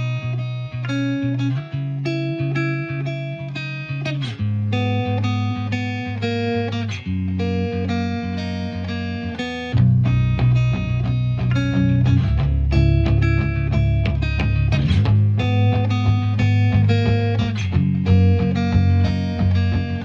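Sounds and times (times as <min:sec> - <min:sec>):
picked guitar notes: 0:00.0 - 0:20.0.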